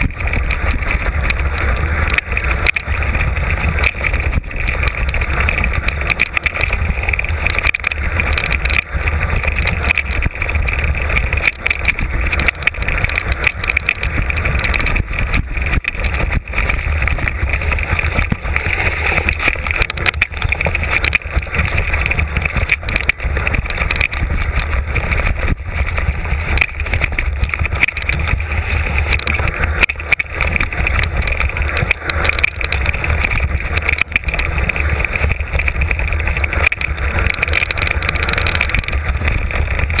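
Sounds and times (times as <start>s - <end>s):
mountain bike rattling and knocking: 0.0s - 40.0s
wind buffeting microphone: 0.0s - 40.0s.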